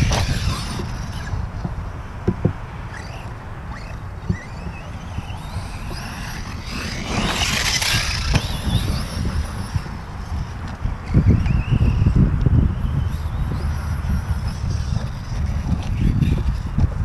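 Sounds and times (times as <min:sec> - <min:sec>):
electric motor whining: 0:00.0 - 0:02.1, 0:02.7 - 0:17.0.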